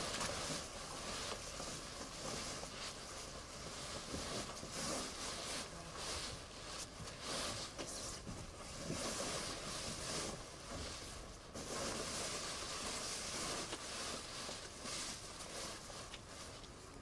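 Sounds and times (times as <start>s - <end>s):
plastic sheeting rustling: 0.0s - 17.0s.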